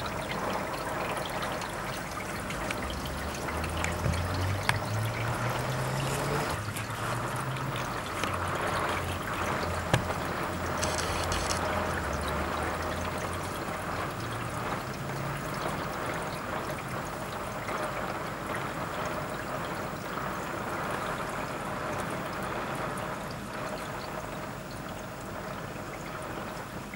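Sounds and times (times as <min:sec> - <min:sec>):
heavy rain on wet street: 0:00.0 - 0:26.9.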